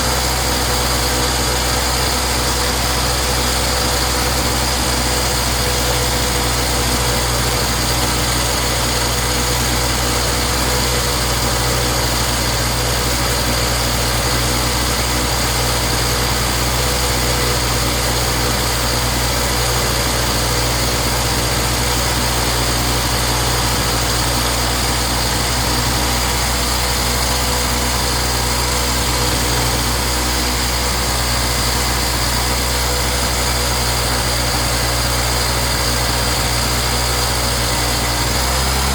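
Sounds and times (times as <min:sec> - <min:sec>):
small generator engine running: 0:00.0 - 0:38.9.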